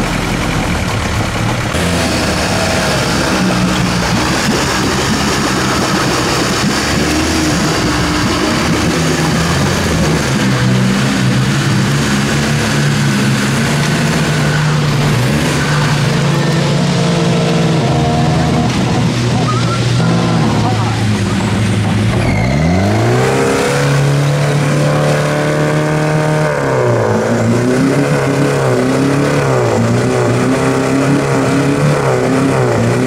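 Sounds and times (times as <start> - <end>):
car engine revving under load: 0.0 - 33.0.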